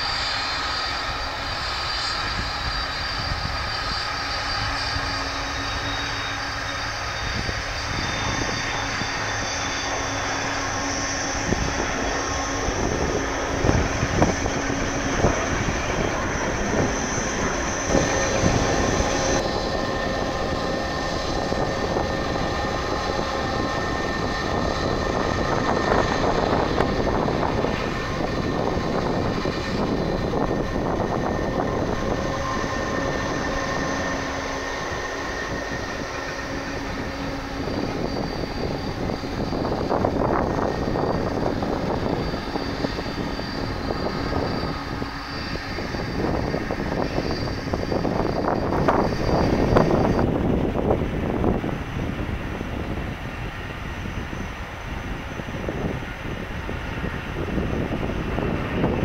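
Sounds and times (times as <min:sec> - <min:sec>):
jet engines rumbling: 0:00.0 - 0:59.0
thin whining tones: 0:00.0 - 0:59.0.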